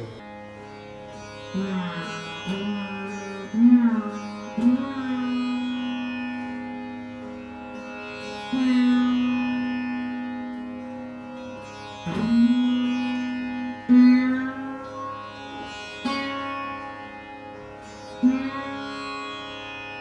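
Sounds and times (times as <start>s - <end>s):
plucked sliding string notes: 0.0s - 19.6s
string drone: 0.0s - 20.0s.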